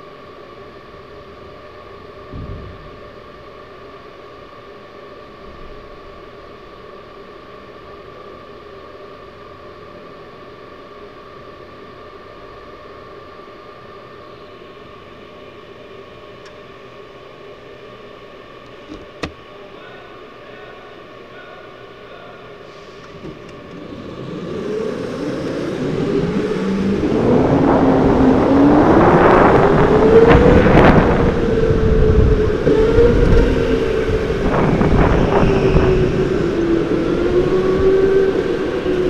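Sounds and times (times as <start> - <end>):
steady tonal hum and hiss: 0.0 - 39.0.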